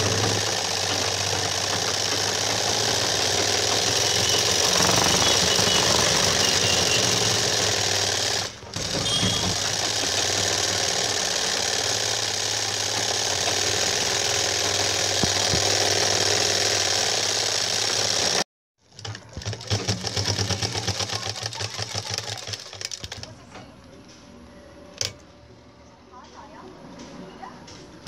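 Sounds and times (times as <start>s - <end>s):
sewing machine stitching: 0.0s - 23.4s.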